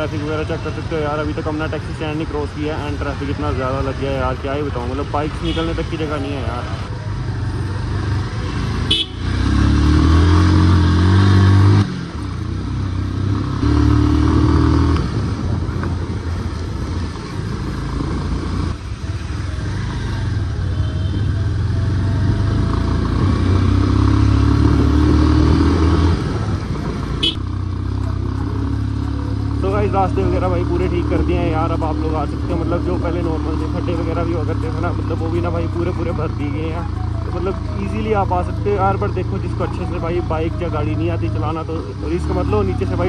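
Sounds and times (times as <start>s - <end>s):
motorcycle engine accelerating: 7.2s - 43.0s.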